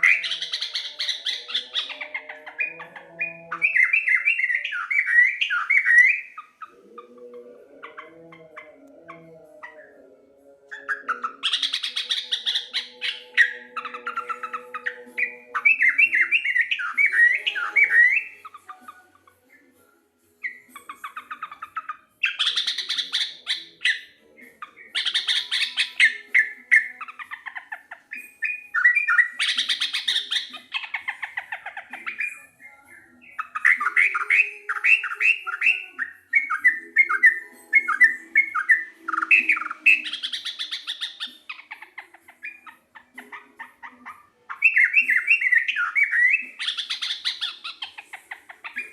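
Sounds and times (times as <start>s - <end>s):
bird chattering song: 0.0s - 48.9s.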